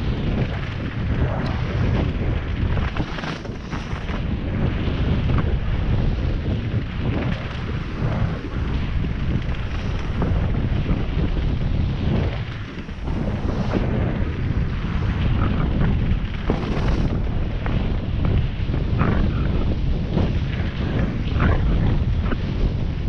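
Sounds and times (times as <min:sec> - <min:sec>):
bike clicks and rattles: 0:00.0 - 0:23.0
bike tyres rumbling: 0:00.0 - 0:23.0
wind buffeting microphone: 0:00.0 - 0:23.0.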